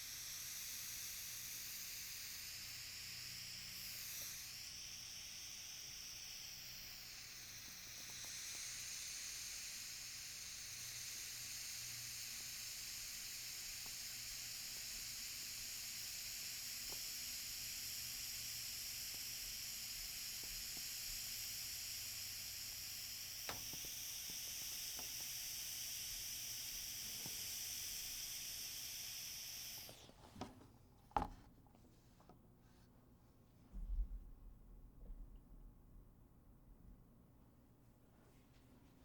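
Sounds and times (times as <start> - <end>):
air being pumped: 0.0 - 32.3.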